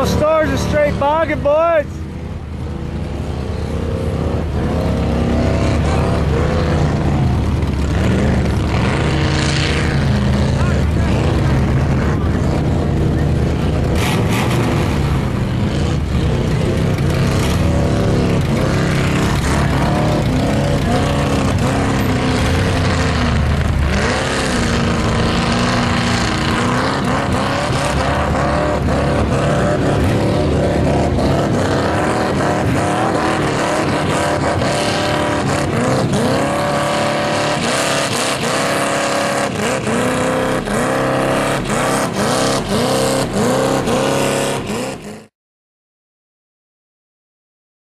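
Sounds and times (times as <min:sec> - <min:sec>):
mud buggy engine revving: 0:00.0 - 0:45.3
tyres driving through mud: 0:00.0 - 0:45.3.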